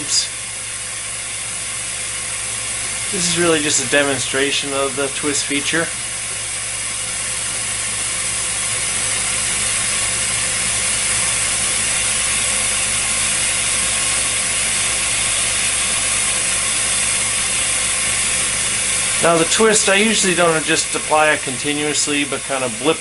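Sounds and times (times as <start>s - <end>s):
gas torch hissing: 0.0s - 23.0s
lathe mechanical hum: 0.0s - 23.0s.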